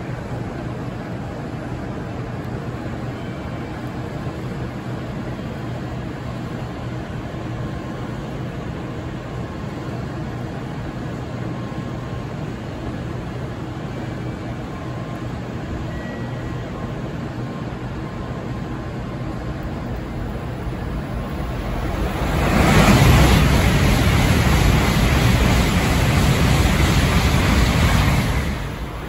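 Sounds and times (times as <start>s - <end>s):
train rumble and hum: 0.0s - 29.0s.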